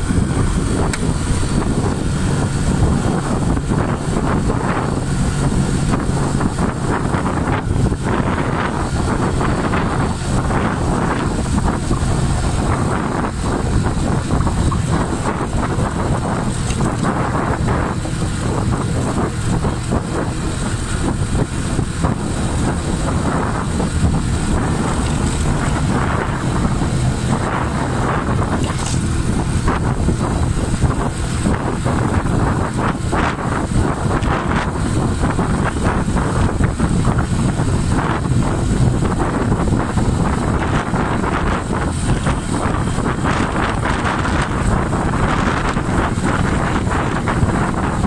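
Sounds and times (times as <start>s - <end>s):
motorcycle engine droning: 0.0s - 48.0s
wind rushing over microphone: 0.0s - 48.0s.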